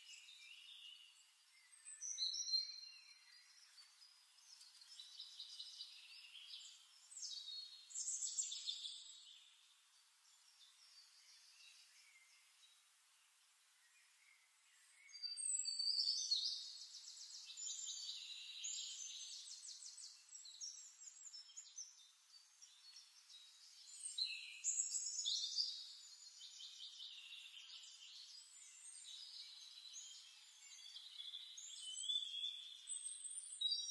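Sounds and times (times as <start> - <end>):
birdsong trills and chirps: 0.0 - 33.9.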